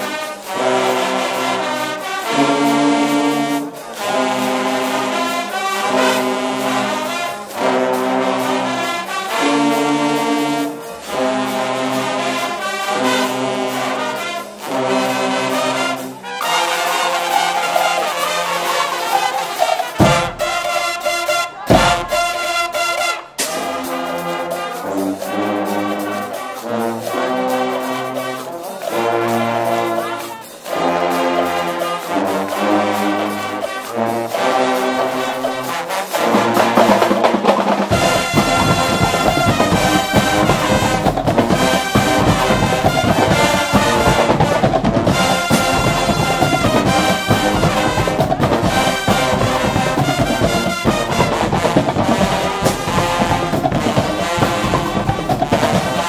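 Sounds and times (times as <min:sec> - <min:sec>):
brass chords: 0:00.0 - 0:56.0
drums playing steady beat: 0:00.0 - 0:56.0.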